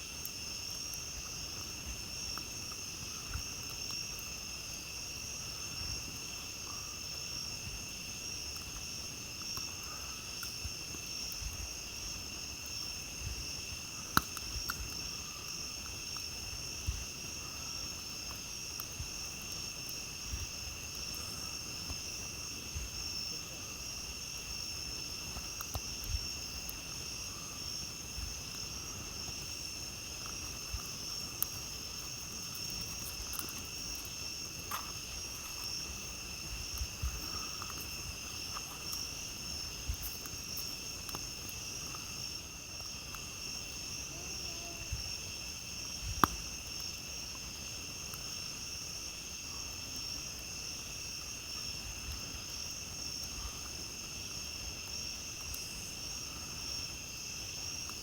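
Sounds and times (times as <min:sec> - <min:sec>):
campfire crackling and popping: 0:00.0 - 0:58.0
crickets and night insects: 0:00.0 - 0:58.0.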